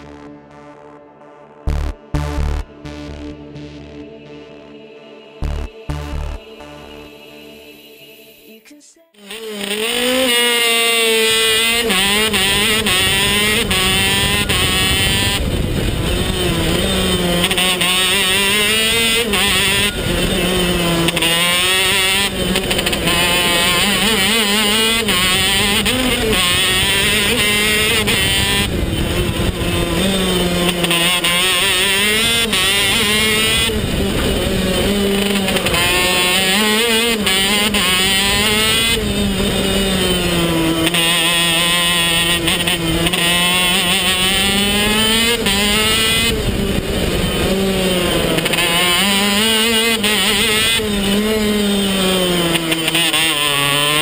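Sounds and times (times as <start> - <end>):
kart engine revving: 9.2 - 54.0.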